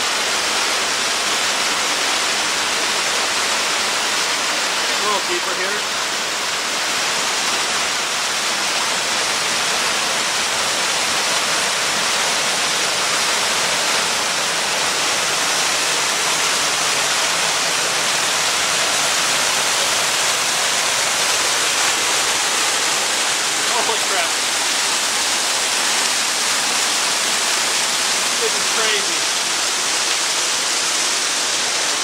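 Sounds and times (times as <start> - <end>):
waterfall pouring: 0.0 - 32.0.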